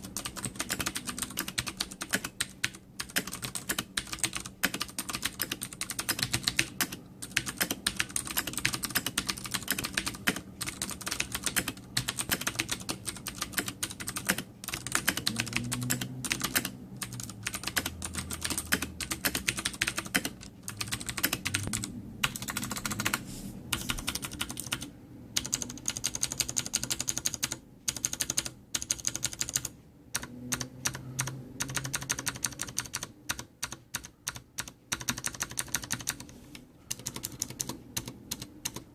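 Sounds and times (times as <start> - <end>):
clicky mechanical keyboard typing: 0.0 - 36.3, 36.9 - 38.9.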